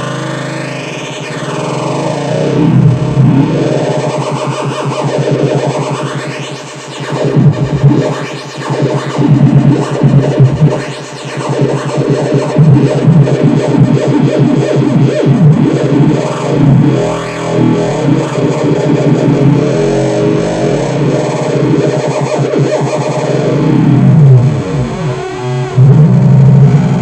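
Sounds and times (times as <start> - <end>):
distorted synthesizer sequence: 0.0 - 27.0.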